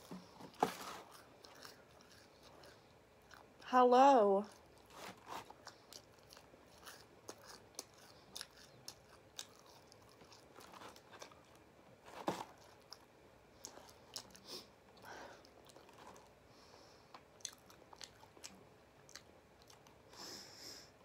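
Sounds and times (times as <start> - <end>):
person chewing crunchy pastry: 0.0 - 3.7, 4.4 - 11.7, 12.4 - 20.1.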